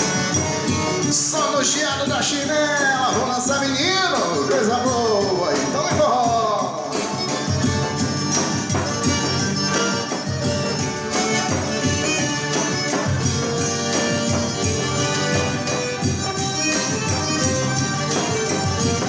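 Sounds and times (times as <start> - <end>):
instrumental dance band music: 0.0 - 19.0.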